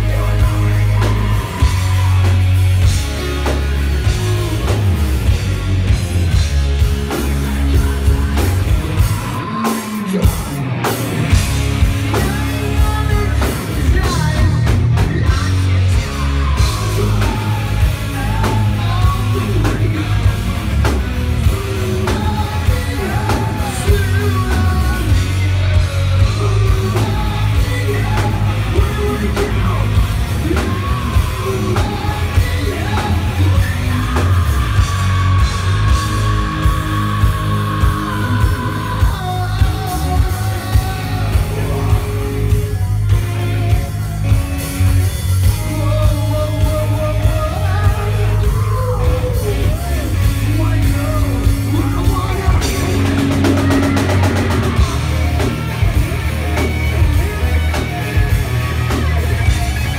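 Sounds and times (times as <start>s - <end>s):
person yelling and singing: 0.0s - 5.2s, 7.5s - 10.7s, 12.0s - 44.4s, 45.4s - 59.9s
bass: 0.0s - 59.9s
distorted electric guitars: 0.0s - 59.9s
drums: 0.0s - 59.9s
keyboard: 0.0s - 59.9s.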